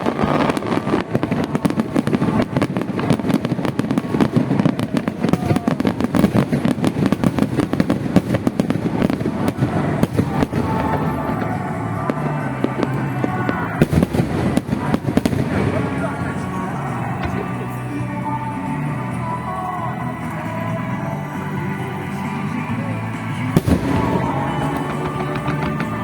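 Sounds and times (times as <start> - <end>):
faint music: 0.0 - 26.0
fireworks bangs and crackles: 0.0 - 26.0.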